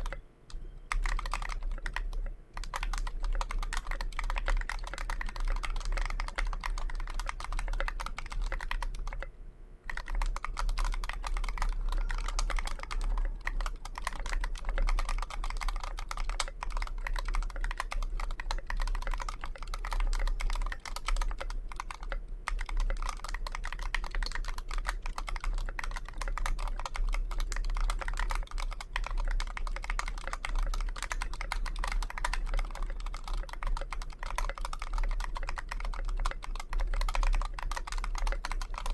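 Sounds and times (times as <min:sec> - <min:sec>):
mechanical keyboard typing: 0:00.0 - 0:09.3, 0:09.9 - 0:38.9.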